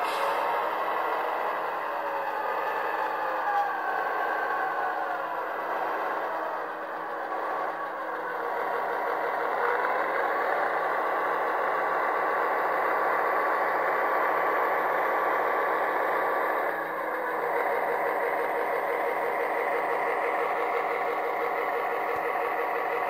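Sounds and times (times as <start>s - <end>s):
model diesel engine sound: 0.0s - 23.0s.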